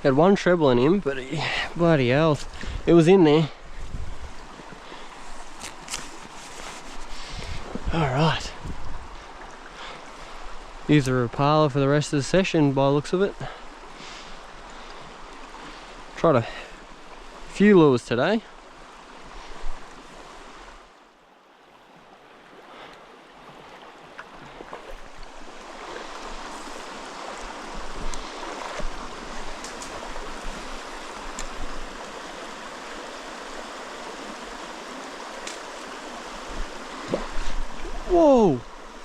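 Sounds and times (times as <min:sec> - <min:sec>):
stream running over rocks: 0:00.0 - 0:39.0.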